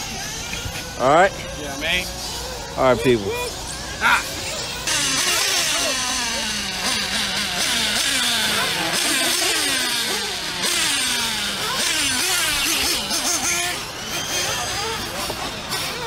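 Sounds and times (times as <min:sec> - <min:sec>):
rc buggy engines revving: 0:00.0 - 0:16.0.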